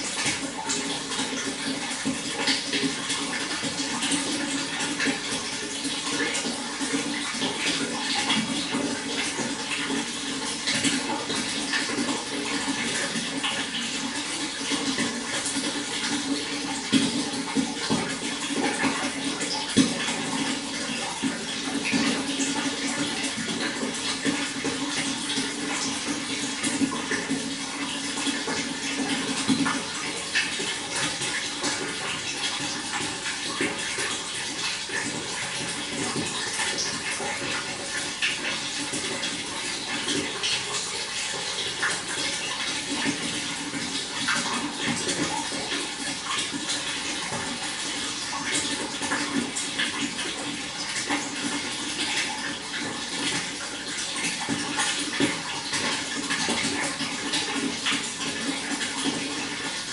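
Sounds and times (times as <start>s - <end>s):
running water splashing: 0.0s - 59.9s
water drips: 0.0s - 59.9s.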